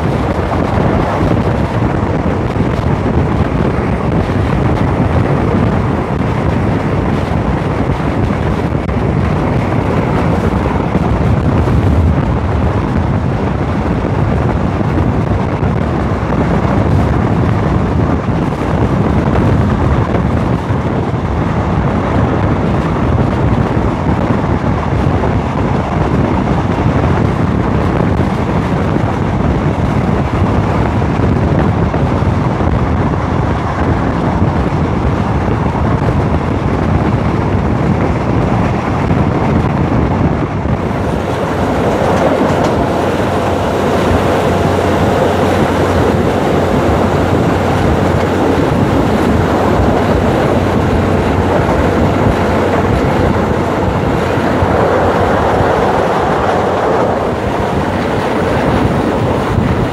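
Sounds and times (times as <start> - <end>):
train running on track: 0.0 - 59.9
wind rushing over microphone: 0.0 - 59.9.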